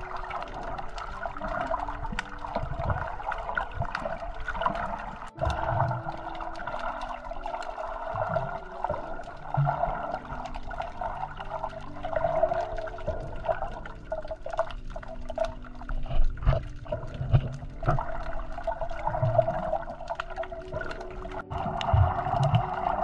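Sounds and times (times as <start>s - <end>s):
underwater water rush: 0.0s - 23.0s.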